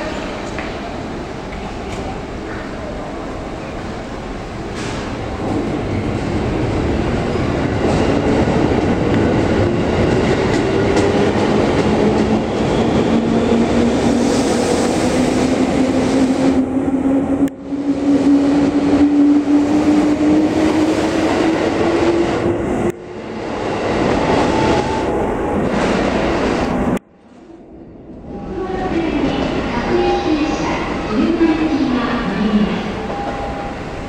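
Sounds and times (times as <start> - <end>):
train cars running noise: 0.0 - 27.5.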